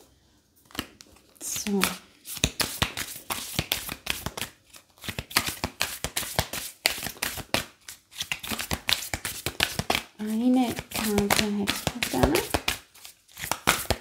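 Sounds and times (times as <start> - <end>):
cards shuffling: 0.6 - 14.0.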